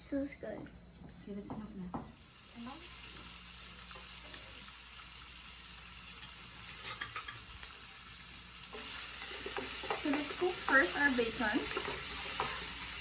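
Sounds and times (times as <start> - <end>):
oil sizzling in frying pan: 1.4 - 13.0.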